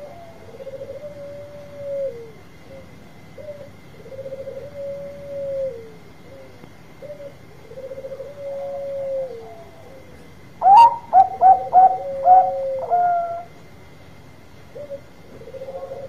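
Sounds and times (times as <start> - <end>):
dove trilling and cooing: 0.0 - 13.6, 14.6 - 16.0.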